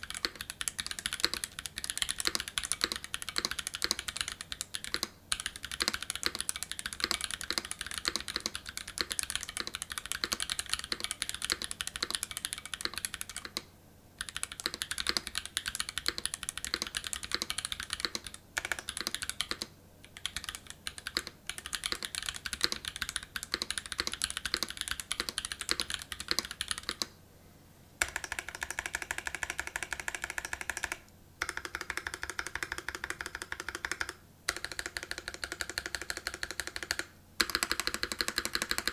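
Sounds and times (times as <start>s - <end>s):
mechanical keyboard typing: 0.0s - 27.1s, 28.0s - 38.9s.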